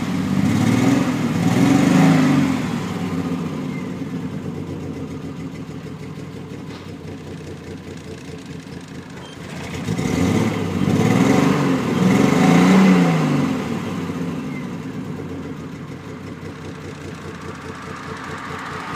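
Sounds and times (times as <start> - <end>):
car engine misfiring and revving: 0.0 - 18.9.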